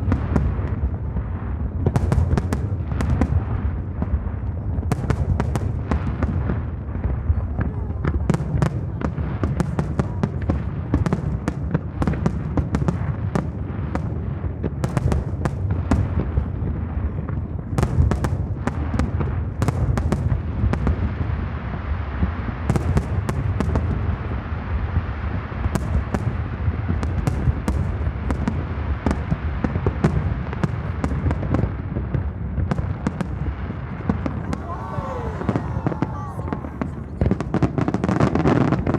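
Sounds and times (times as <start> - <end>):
fireworks cracks and bangs: 0.0 - 38.9.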